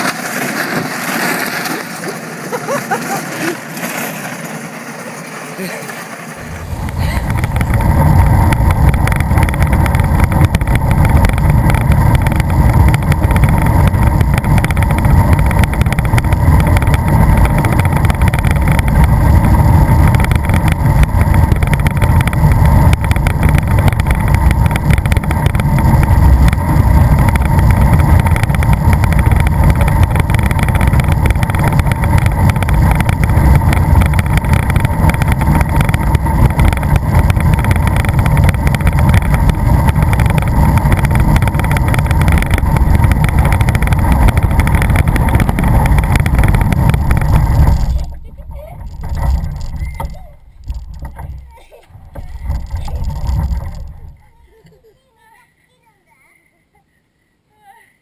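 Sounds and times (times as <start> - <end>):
pedal car wheels rumbling: 0.0 - 55.4.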